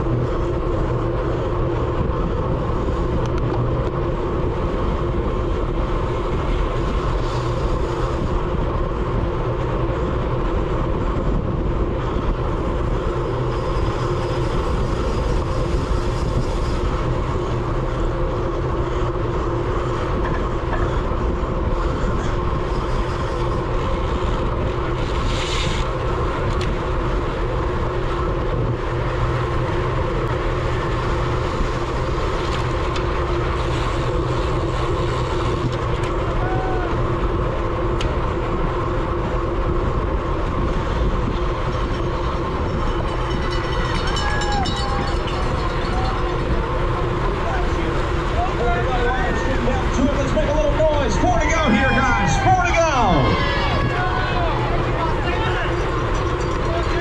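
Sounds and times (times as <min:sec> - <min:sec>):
bicycle tyres and drivetrain hum: 0:00.0 - 0:57.0
wind rushing over microphone: 0:00.0 - 0:57.0.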